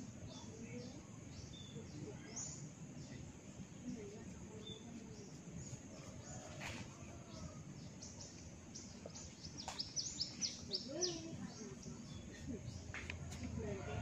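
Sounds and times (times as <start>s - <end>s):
faint distant voices: 0.0s - 14.0s
small birds chirping: 0.0s - 14.0s.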